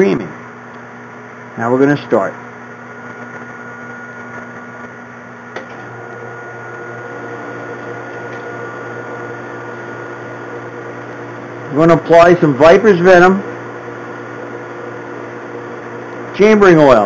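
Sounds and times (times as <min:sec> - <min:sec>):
metal lathe motor hum: 0:02.5 - 0:17.0.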